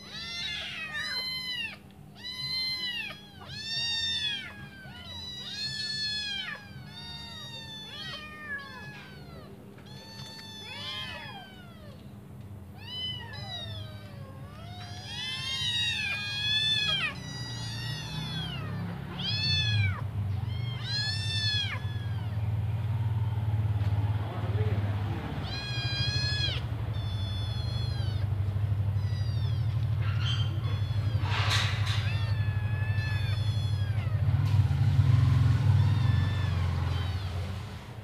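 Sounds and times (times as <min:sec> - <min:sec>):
kittens meowing: 0:00.0 - 0:38.0.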